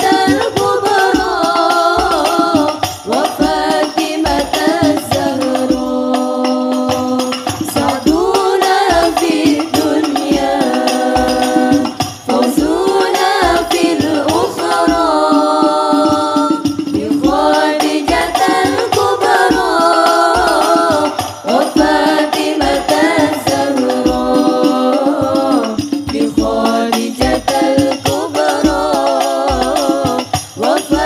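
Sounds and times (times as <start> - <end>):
frame drums beating: 0.0 - 31.0
women singing in unison: 0.0 - 31.0.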